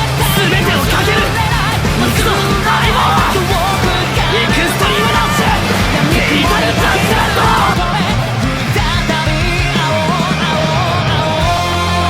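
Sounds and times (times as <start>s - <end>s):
loud rock song with band: 0.0s - 12.0s.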